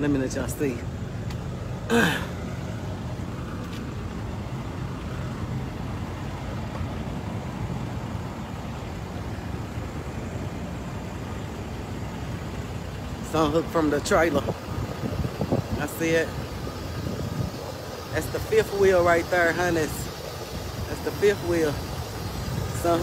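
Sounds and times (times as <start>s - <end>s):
truck diesel engine idling: 0.0s - 23.0s.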